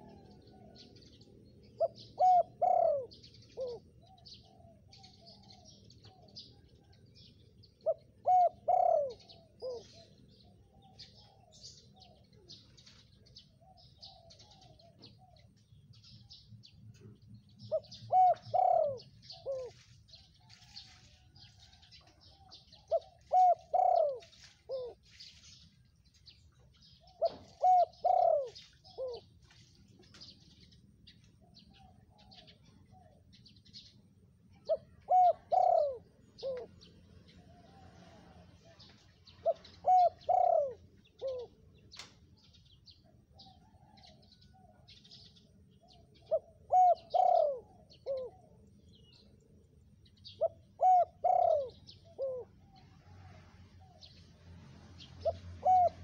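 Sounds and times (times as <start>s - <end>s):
dove cooing: 0.0s - 15.6s, 16.9s - 20.9s, 21.8s - 25.2s, 26.8s - 29.4s, 31.4s - 33.9s, 34.5s - 41.9s, 43.0s - 49.3s, 50.2s - 54.2s, 55.0s - 56.0s
birds chirping: 0.0s - 52.9s.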